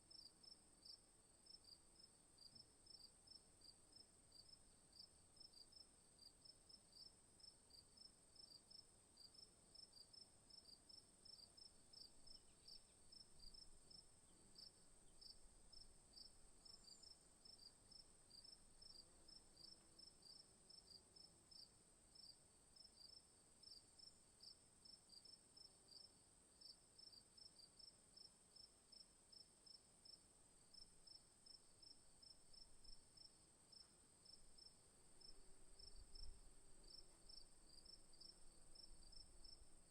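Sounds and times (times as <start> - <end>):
crickets chirping: 7.0 - 39.9.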